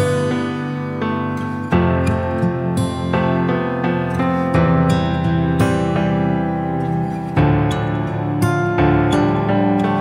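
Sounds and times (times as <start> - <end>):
calm instrumental music: 0.0 - 10.0.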